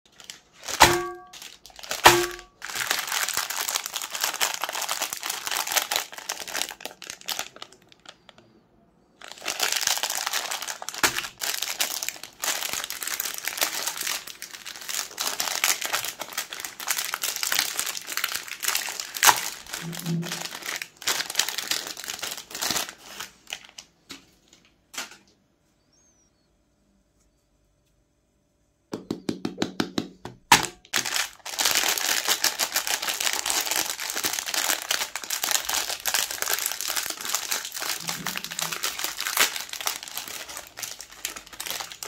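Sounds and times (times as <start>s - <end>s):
ice cream bars crunching in grinder: 0.1s - 8.5s, 9.2s - 23.7s, 30.8s - 42.0s.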